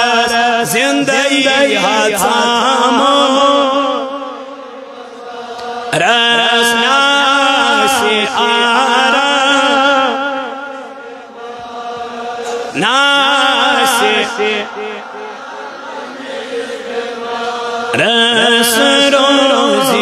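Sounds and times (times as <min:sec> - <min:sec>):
man singing devotional song: 0:00.0 - 0:15.3, 0:17.1 - 0:20.0.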